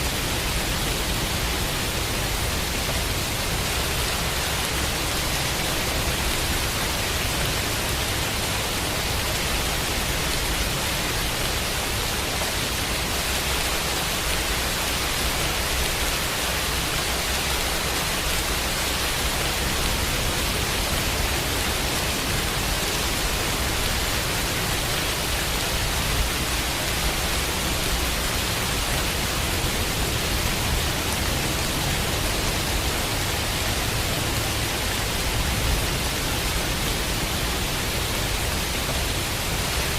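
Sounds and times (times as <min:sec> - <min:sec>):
steady rain: 0:00.0 - 0:39.9
white noise hiss: 0:00.0 - 0:39.9.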